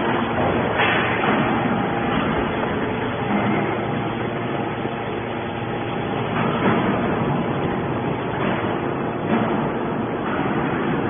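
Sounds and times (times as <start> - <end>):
hydraulic baler running: 0.0 - 11.0.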